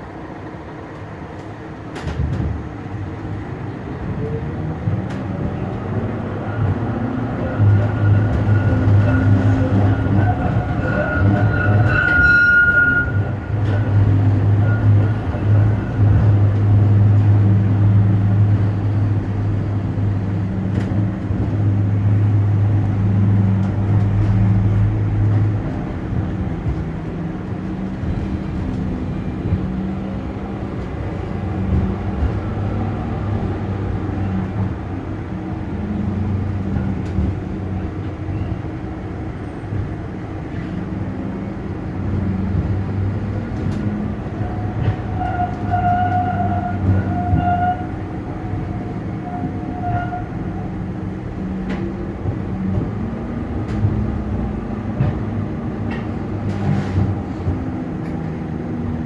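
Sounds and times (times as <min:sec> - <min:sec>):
tram motor hum: 0:00.0 - 0:59.0
wheels rumbling on rails: 0:00.0 - 0:59.0.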